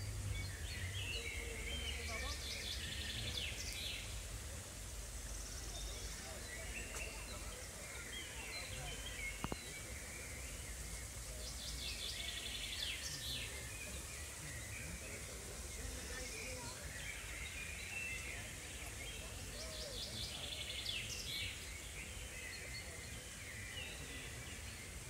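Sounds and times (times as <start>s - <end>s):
faint distant voices: 0.0s - 25.0s.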